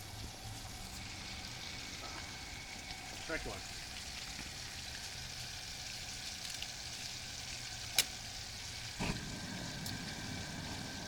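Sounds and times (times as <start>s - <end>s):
turkey sizzling in hot oil: 0.0s - 11.0s.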